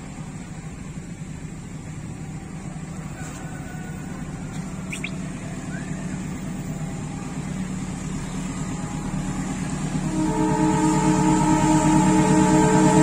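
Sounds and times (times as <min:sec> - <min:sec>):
diesel locomotive drone: 0:00.0 - 0:13.0
locomotive multi-tone horn: 0:02.2 - 0:13.0.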